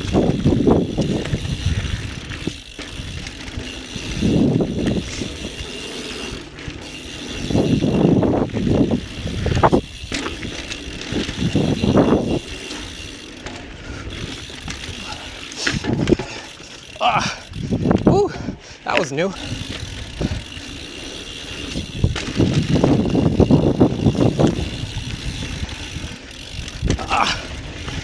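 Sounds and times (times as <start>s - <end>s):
tyre rumble on dirt trail: 0.0s - 17.0s, 19.4s - 28.0s
bicycle freehub ratcheting: 0.0s - 28.0s.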